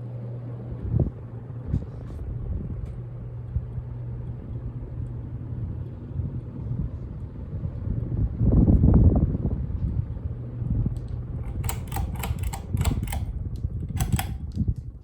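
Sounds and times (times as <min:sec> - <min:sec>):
ceiling fan motor hum: 0:00.0 - 0:15.0
rumble of moving air: 0:00.7 - 0:15.0.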